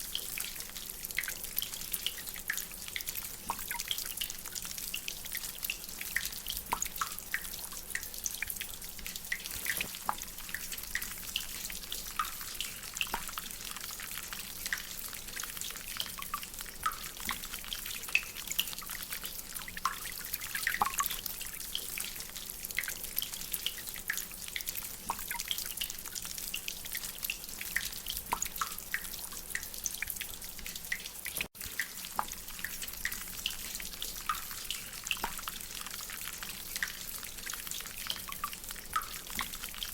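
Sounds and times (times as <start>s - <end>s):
water dripping from drainpipe: 0.0s - 39.9s.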